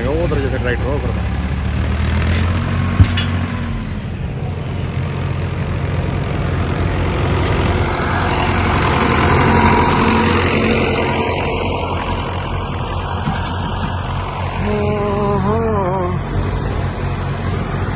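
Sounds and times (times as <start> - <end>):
tractor engine running: 0.0 - 17.9.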